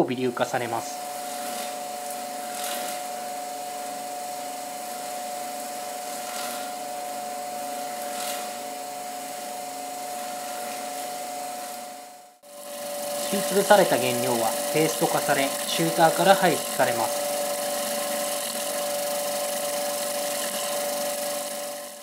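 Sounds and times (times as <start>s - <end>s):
stone grinder whining: 0.0s - 22.0s.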